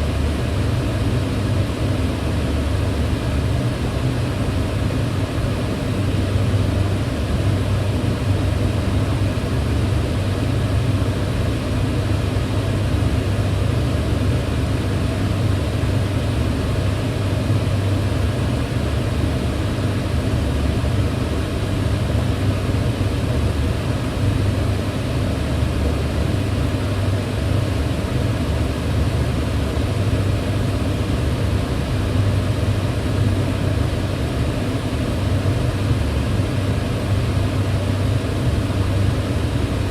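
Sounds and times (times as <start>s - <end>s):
extractor fan running: 0.0s - 39.9s.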